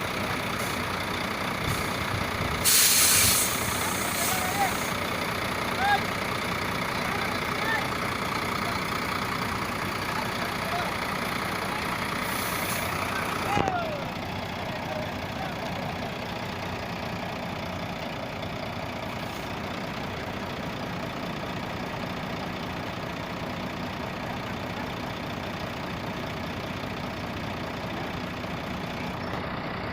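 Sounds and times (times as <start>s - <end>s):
heavy truck engine idling: 0.0s - 29.9s.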